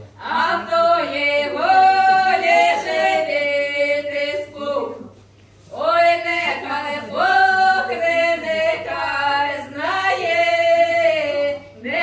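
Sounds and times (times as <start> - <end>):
group of voices singing: 0.2 - 12.0.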